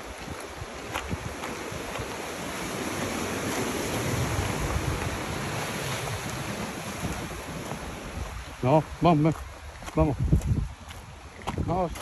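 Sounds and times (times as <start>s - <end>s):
footsteps on stony ground: 0.0s - 12.0s.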